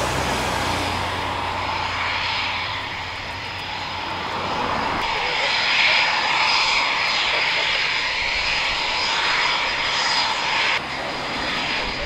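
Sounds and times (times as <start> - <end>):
jet engine rushing with whine: 0.0 - 12.0.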